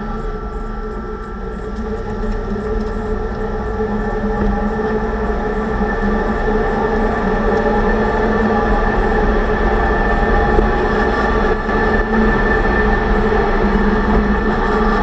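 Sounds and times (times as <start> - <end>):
drivetrain whine: 0.0 - 15.0.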